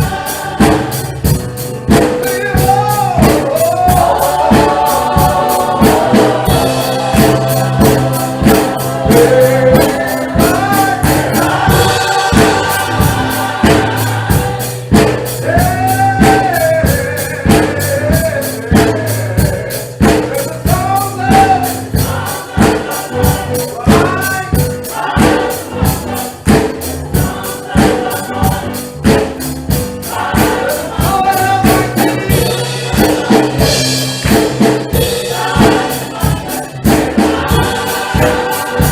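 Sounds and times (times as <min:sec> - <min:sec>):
gospel singing voices: 0:00.0 - 0:38.9
steady percussive beat: 0:00.0 - 0:38.9.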